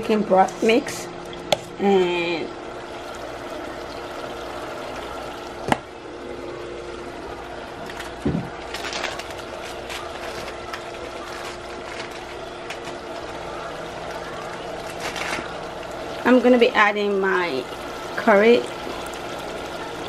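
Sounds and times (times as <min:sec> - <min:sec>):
steady hum: 0:00.0 - 0:20.0
stew simmering: 0:00.1 - 0:20.0.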